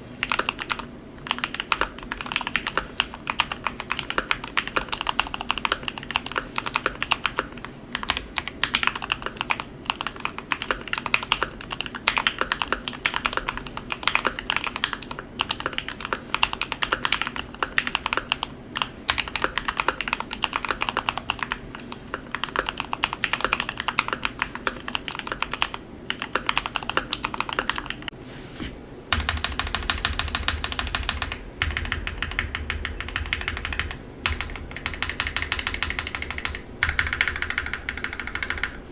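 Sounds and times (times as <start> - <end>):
mechanical keyboard typing: 0.2 - 28.1, 29.1 - 38.8.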